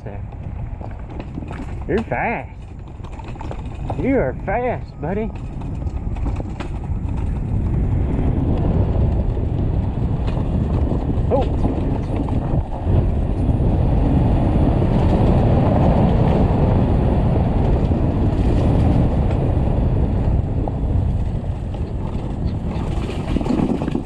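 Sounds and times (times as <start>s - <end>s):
tyre and trail noise: 0.0s - 24.0s
wind rumble on microphone: 0.0s - 24.0s.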